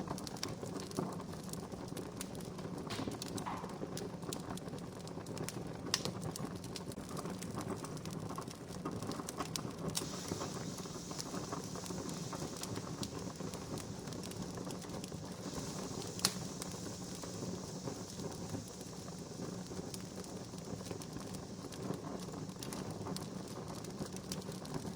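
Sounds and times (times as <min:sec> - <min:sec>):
campfire crackling: 0:00.0 - 0:24.9
sharp fire pops: 0:00.1 - 0:24.9.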